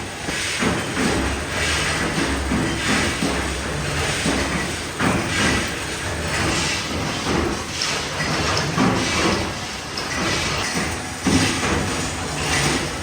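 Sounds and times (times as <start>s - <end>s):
factory machinery rumbling: 0.0s - 13.0s.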